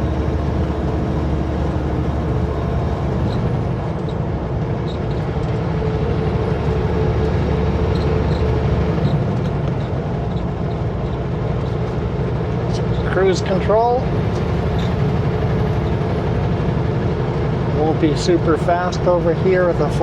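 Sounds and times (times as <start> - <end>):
road noise: 0.0 - 20.0
truck diesel engine: 0.0 - 20.0.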